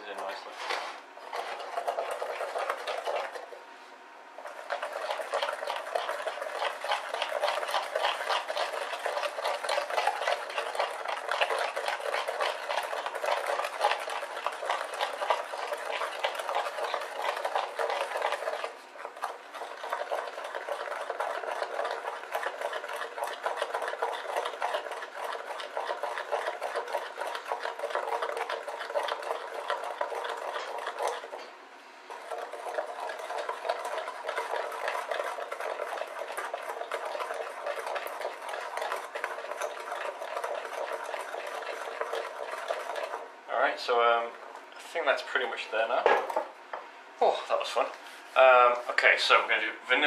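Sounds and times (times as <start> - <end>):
utensil scraping glass bowl: 0.1 - 3.6, 4.4 - 31.5, 32.1 - 43.3.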